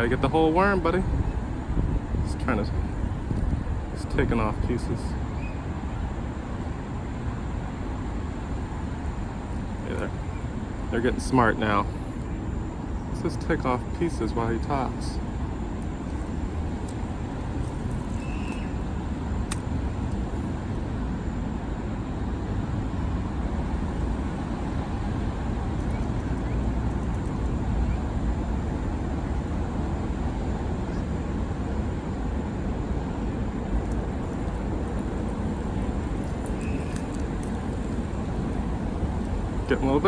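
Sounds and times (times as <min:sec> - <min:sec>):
road traffic rumble: 0:00.0 - 0:40.0.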